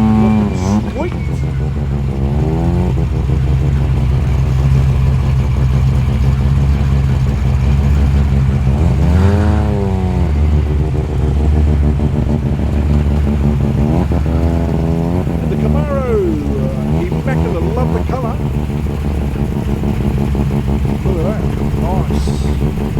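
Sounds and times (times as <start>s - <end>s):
car engine rumbling and revving: 0.0s - 22.9s.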